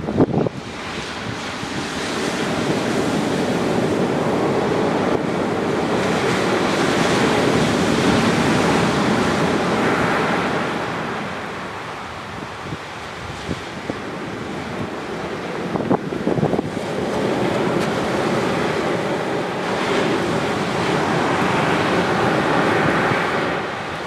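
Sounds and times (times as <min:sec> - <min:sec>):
surf washing on beach: 0:00.0 - 0:24.0.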